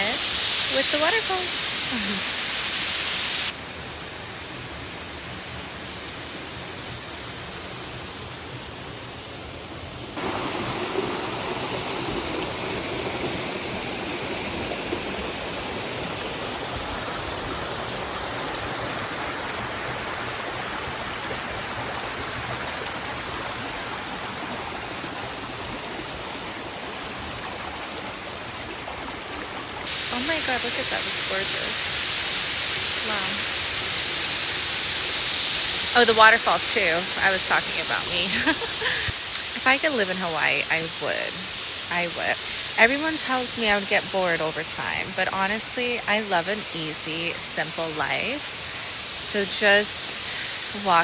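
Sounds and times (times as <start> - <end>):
rushing water: 0.0 - 51.0.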